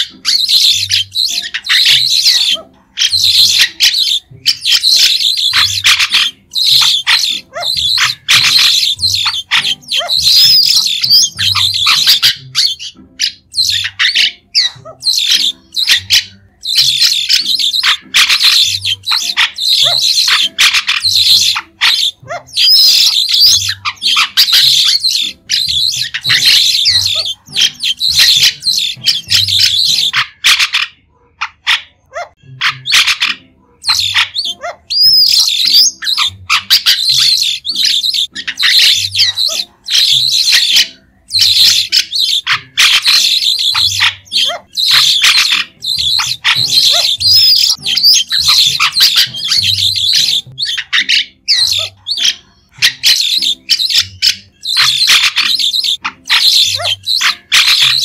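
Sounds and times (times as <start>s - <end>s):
bird chattering calls: 0.0s - 30.9s, 32.6s - 58.0s.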